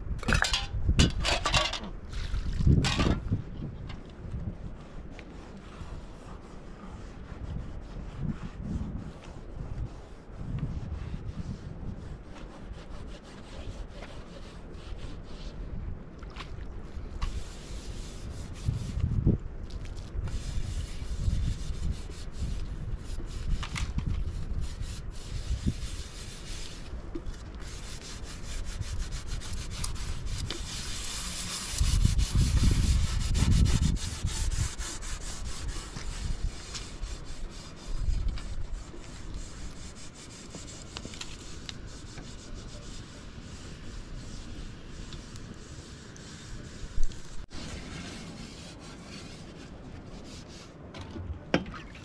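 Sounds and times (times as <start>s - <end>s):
wind on microphone: 0.0s - 50.6s
rubbing and scraping: 0.3s - 1.9s, 2.7s - 15.7s, 17.0s - 51.3s.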